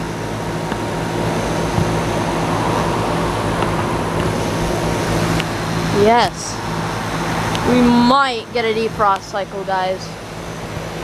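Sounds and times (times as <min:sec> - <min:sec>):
compressor hum: 0:00.0 - 0:11.0
outdoor fans running: 0:00.0 - 0:11.0.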